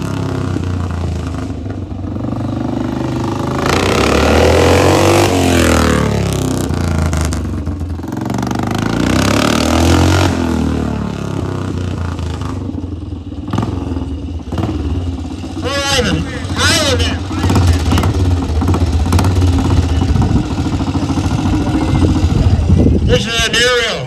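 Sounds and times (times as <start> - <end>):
motorcycle engine revving: 0.0 - 23.8.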